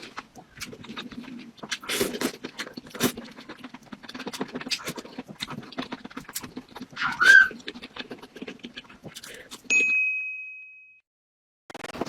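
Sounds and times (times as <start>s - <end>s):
chewing and mouth noises: 0.0s - 9.8s.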